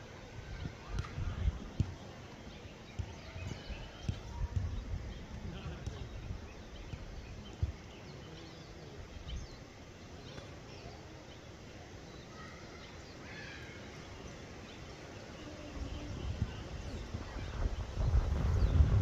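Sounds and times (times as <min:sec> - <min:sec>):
faint forest birdsong: 0:00.0 - 0:19.0.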